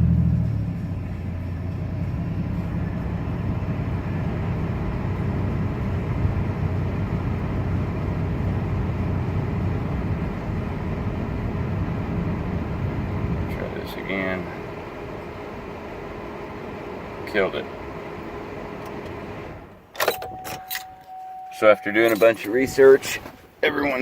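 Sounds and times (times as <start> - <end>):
car engine idling and stumbling: 0.0 - 24.0.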